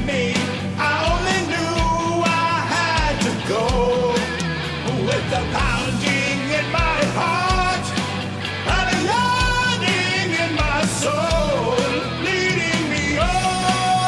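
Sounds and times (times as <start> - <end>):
hard rock song with vocals: 0.0 - 14.0.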